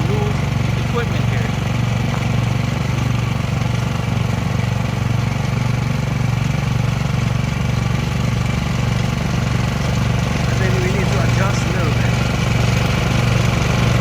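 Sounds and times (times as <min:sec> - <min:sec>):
snow blower engine running: 0:00.0 - 0:14.0.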